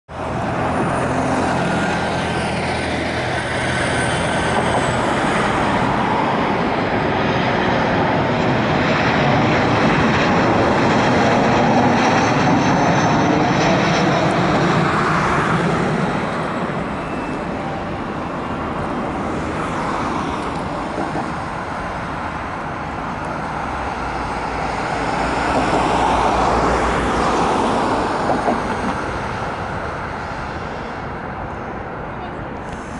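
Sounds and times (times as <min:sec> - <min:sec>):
jet airliner rumble and whine: 0:00.1 - 0:32.9.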